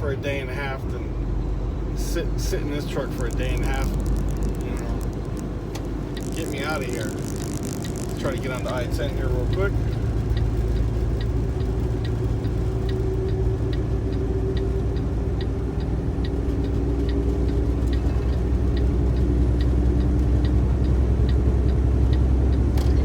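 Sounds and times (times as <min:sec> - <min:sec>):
road noise: 0:00.0 - 0:23.0
truck diesel engine drone: 0:00.0 - 0:23.0
turn signal ticking: 0:00.0 - 0:23.0.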